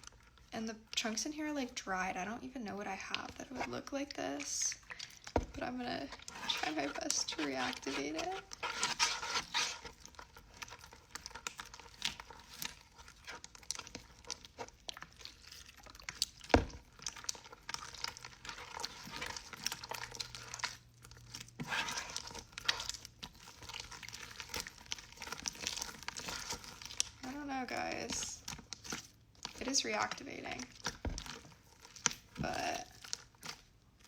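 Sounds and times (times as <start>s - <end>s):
slime squishing and crackling: 0.0s - 34.0s.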